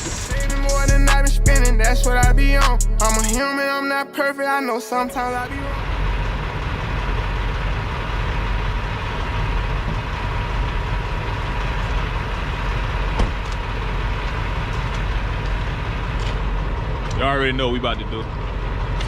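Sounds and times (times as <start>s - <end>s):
truck engine rumbling: 0.0s - 3.4s, 5.0s - 19.0s.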